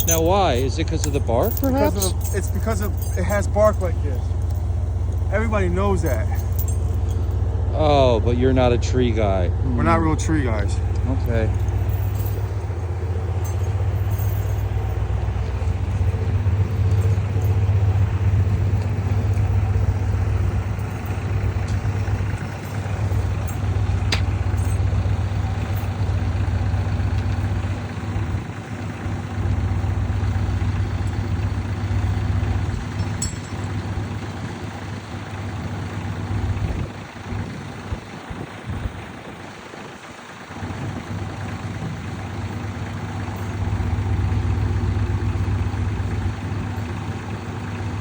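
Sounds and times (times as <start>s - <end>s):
large engine idling: 0.0s - 48.0s.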